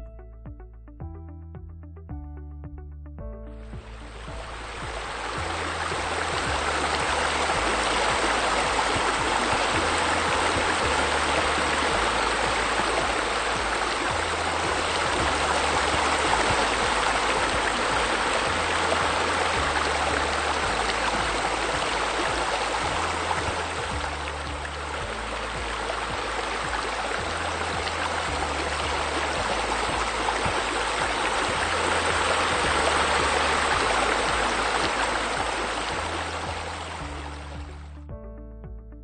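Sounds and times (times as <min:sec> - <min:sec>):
background music bass line: 0:00.0 - 0:39.0
running splashing water: 0:03.8 - 0:38.0.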